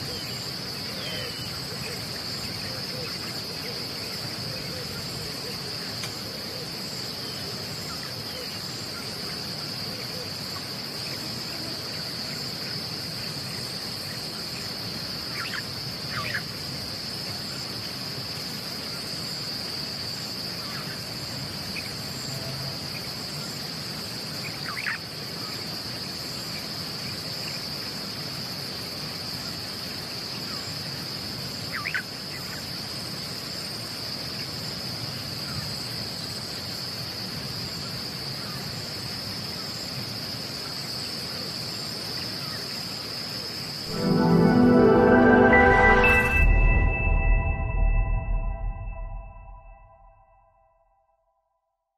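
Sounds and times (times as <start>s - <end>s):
high-pitched insect chorus: 0.0s - 47.3s.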